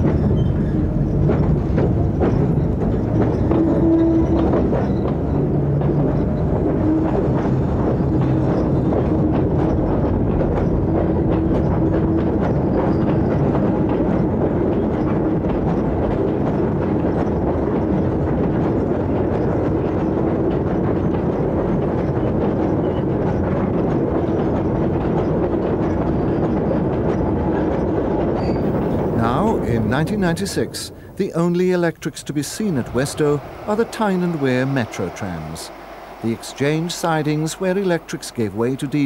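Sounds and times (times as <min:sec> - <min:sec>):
train rumbling on rails: 0:00.0 - 0:39.0.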